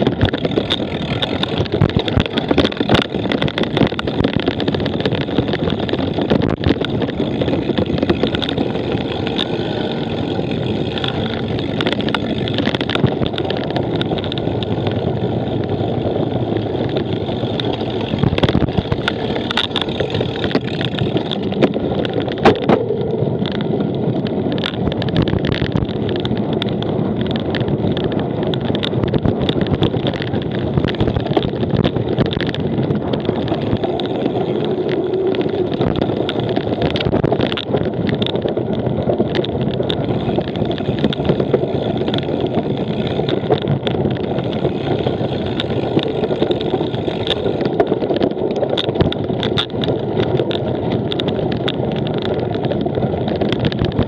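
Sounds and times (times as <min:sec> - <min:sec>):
bike rattling: 0:00.0 - 0:54.0
bike tyres rumbling: 0:00.0 - 0:54.0
wind on microphone: 0:00.0 - 0:54.0.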